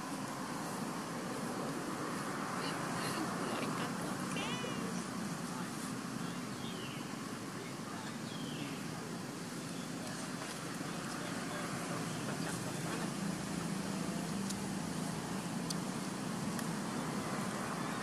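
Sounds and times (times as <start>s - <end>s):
distant traffic hum: 0.0s - 18.0s.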